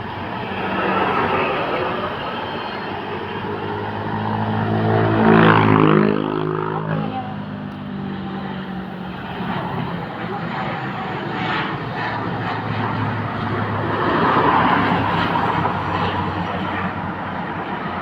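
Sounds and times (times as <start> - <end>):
aircraft rushing noise: 0.0 - 18.0
propeller hum: 0.0 - 18.0.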